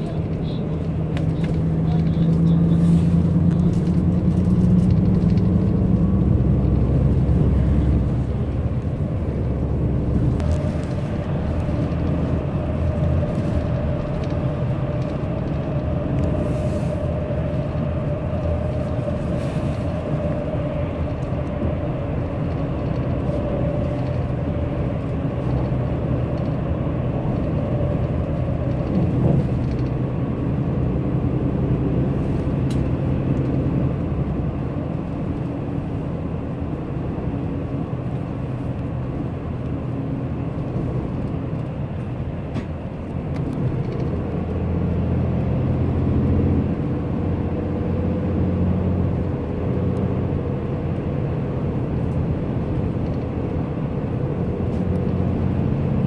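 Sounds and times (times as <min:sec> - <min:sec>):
bus road and engine rumble: 0:00.0 - 0:56.0.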